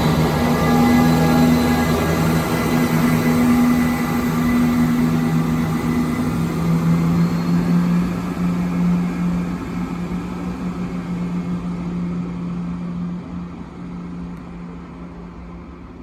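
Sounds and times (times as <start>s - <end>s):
diesel train engines droning: 0.0s - 16.0s.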